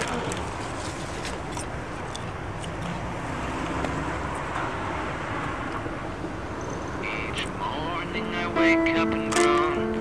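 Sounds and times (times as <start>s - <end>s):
city street traffic: 0.0s - 10.0s.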